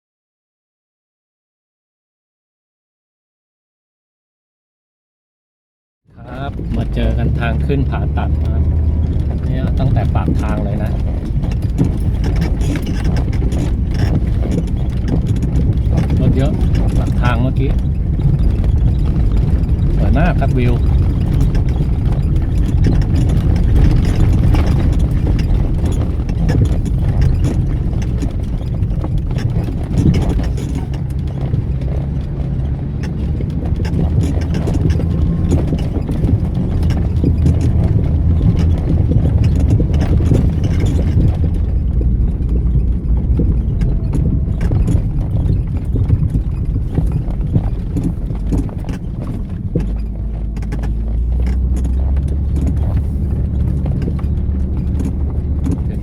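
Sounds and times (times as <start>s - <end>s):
low engine drone: 6.2s - 56.0s
vehicle knocking and rattling: 6.2s - 56.0s.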